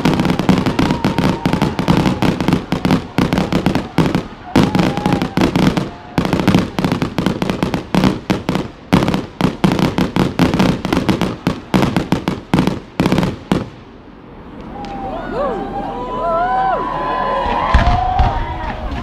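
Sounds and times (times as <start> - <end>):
fireworks exploding: 0.0 - 14.6, 17.4 - 19.0.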